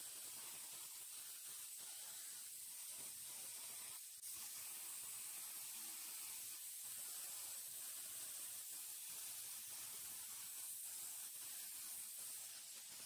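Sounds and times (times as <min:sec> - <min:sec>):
laser cleaner hissing: 0:00.0 - 0:13.0.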